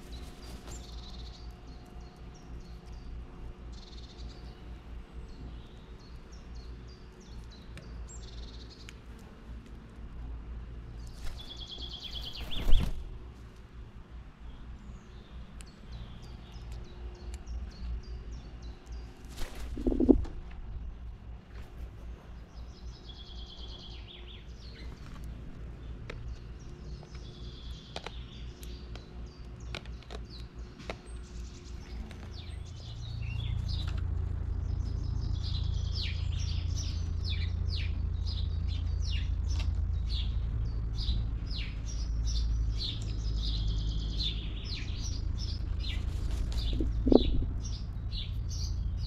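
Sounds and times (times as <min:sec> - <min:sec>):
birds chirping: 0:00.0 - 0:49.0
low rumble: 0:00.0 - 0:49.0.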